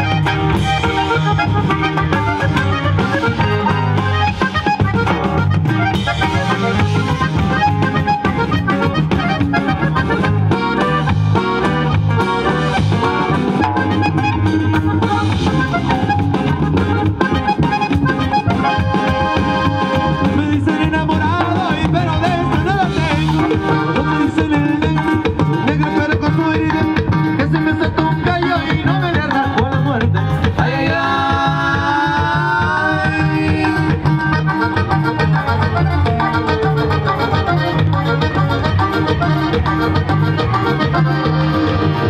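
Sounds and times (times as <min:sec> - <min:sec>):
live band playing latin dance music: 0:00.0 - 0:42.0.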